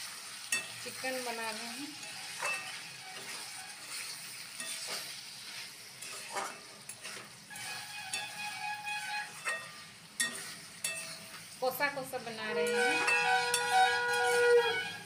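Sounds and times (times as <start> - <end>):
chicken sizzling in a wok: 0.0 - 15.0
spatula scraping a pan: 0.1 - 15.0.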